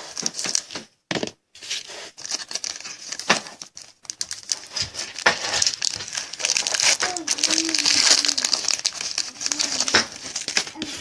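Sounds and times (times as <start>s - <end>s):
card pack wrapper crinkling: 0.0s - 0.8s, 1.9s - 11.0s
cards being handled: 0.0s - 11.0s.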